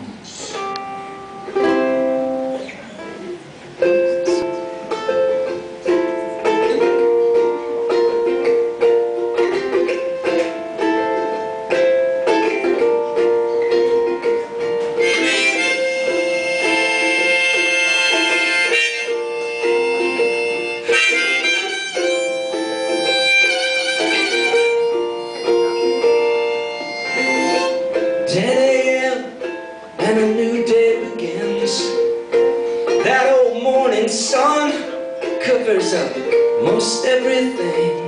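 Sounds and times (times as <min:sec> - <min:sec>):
strummed ukulele: 0:00.0 - 0:38.0
harmonica chords: 0:03.8 - 0:38.0.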